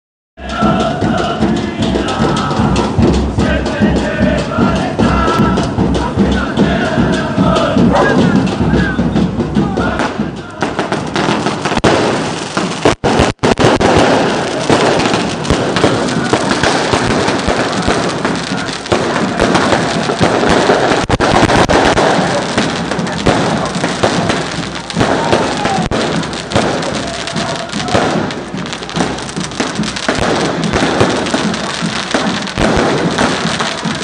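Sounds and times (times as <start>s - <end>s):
fireworks crackling and popping: 0.4s - 34.0s.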